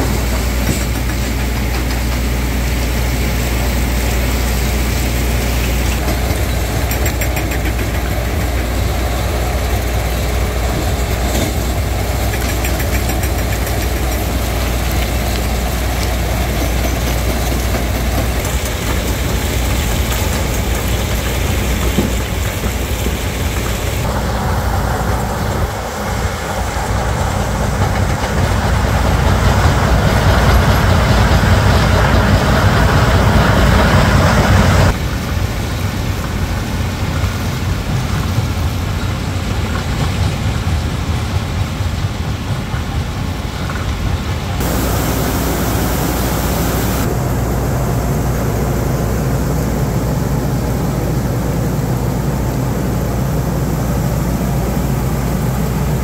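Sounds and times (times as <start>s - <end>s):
machinery and engines humming: 0.0s - 40.9s, 41.8s - 56.0s.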